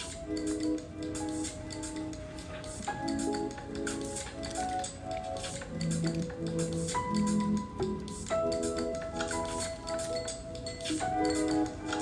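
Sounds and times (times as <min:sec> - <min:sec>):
keyboard chords over light beat: 0:00.0 - 0:12.0.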